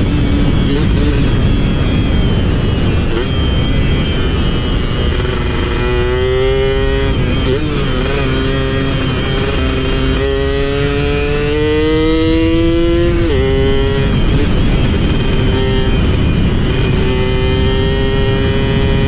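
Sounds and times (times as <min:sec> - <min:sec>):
two-stroke motorcycle engine: 0:00.0 - 0:19.0.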